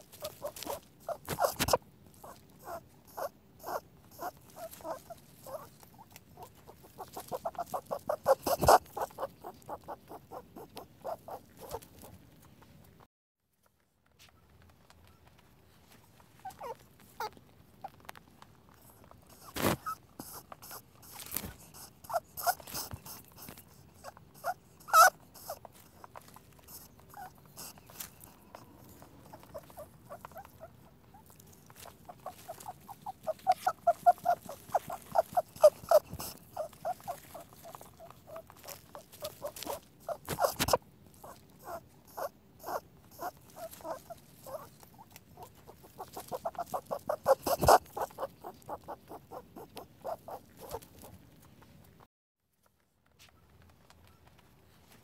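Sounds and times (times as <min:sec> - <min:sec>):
rabbit squeaking: 0:00.0 - 0:12.7, 0:16.3 - 0:52.0.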